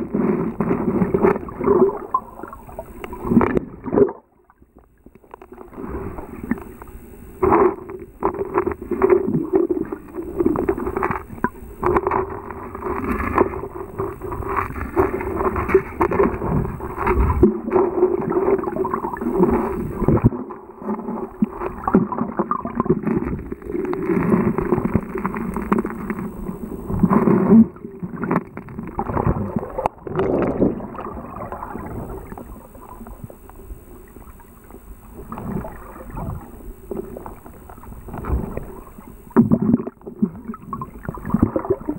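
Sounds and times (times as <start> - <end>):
churning water underwater: 0.0 - 41.9.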